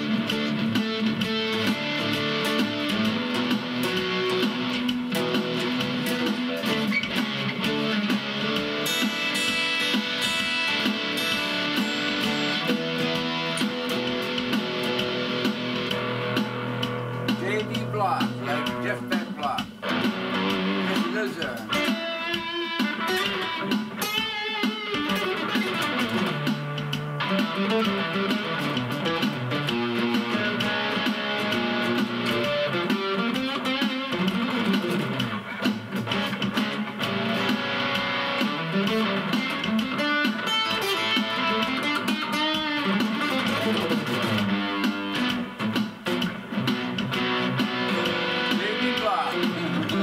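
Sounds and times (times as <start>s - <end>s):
amplified acoustic guitar picking: 0.0s - 50.0s.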